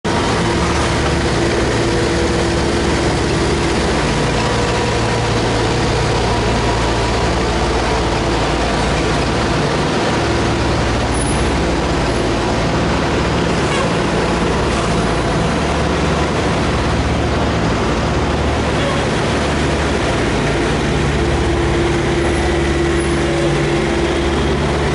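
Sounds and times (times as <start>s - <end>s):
heavy vehicle engine running: 0.0s - 24.9s
rushing noise: 0.0s - 24.9s.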